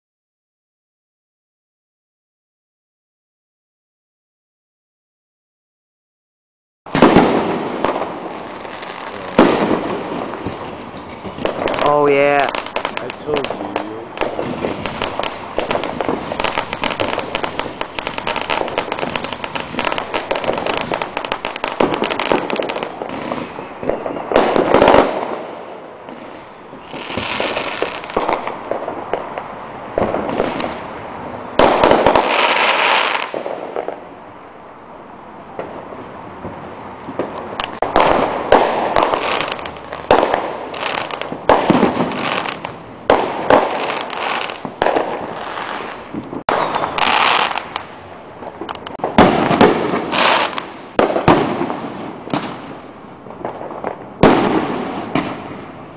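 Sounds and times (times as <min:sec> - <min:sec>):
firework bursts: 0:06.9 - 0:55.9
fireworks crackling pops: 0:06.9 - 0:55.9.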